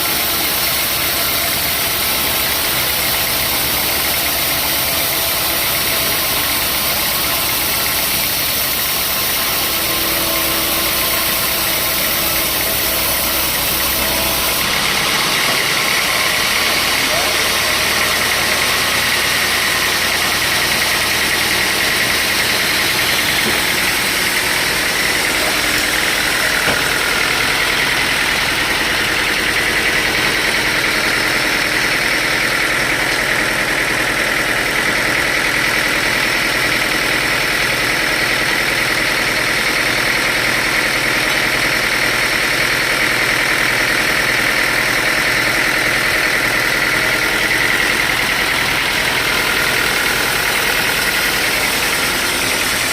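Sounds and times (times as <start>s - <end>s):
sawmill saw whining: 0.0s - 52.9s.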